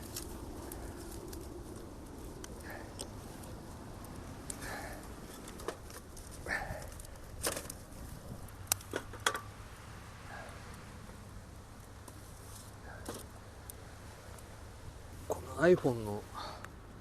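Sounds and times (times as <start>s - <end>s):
fire snapping: 0.0s - 17.0s
wood fire crackling: 0.0s - 17.0s.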